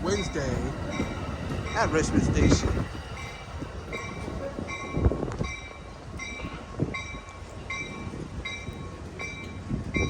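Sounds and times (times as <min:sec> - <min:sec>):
train bell ringing: 0:00.0 - 0:10.0
train rumbling: 0:00.0 - 0:10.0.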